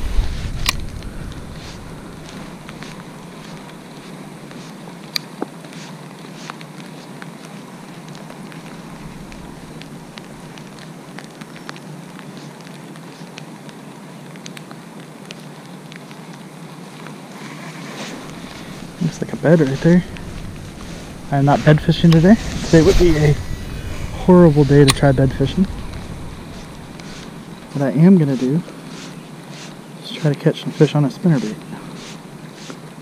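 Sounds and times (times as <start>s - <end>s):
rain hissing: 0.0s - 6.9s, 7.5s - 12.4s, 17.4s - 33.0s.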